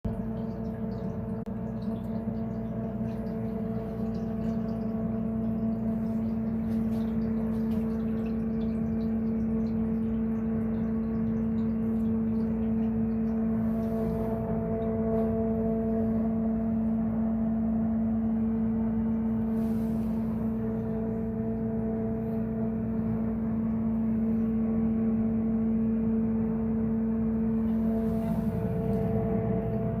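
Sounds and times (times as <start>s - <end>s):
pump motor humming: 0.0s - 30.0s.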